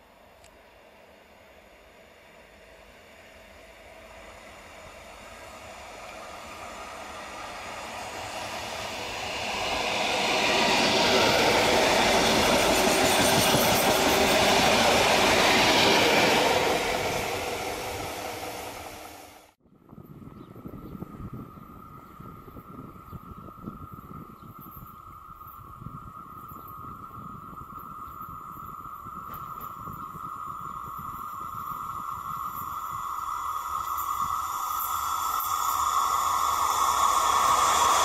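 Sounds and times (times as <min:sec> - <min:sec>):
train passing on rails: 0:00.0 - 0:38.0.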